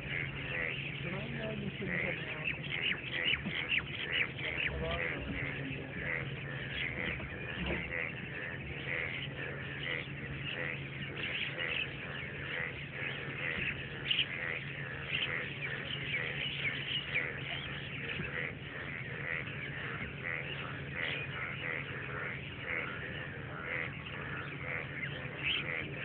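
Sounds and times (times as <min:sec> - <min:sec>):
many birds chirping: 0:00.0 - 0:26.0
steady low hum: 0:00.0 - 0:26.0.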